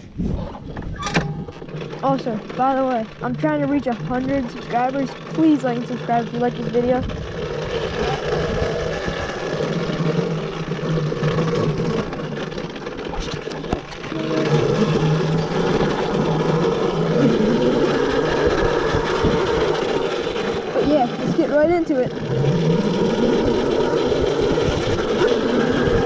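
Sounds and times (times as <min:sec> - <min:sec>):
wind rumbling on microphone: 0:00.0 - 0:01.7, 0:06.2 - 0:26.0
electric motor whine: 0:01.1 - 0:26.0.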